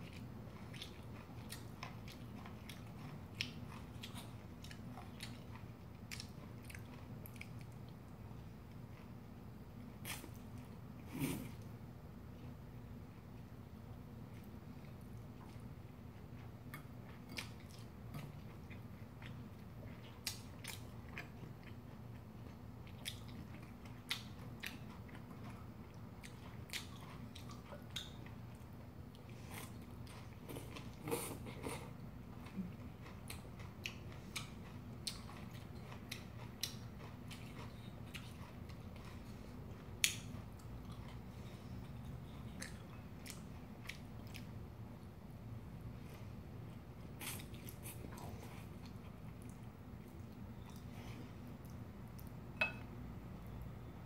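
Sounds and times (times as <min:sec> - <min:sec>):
person chewing food: 0:00.0 - 0:13.5, 0:14.3 - 0:45.1, 0:45.8 - 0:53.8
steady low hum: 0:00.0 - 0:54.0.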